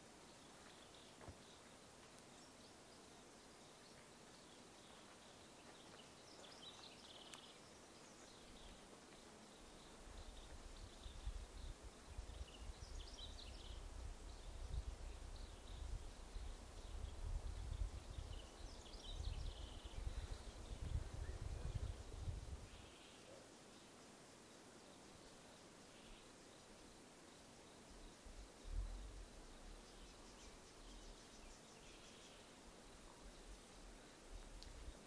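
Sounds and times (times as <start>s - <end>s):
quiet forest background: 0.0s - 35.0s
small birds chirping: 0.0s - 35.0s.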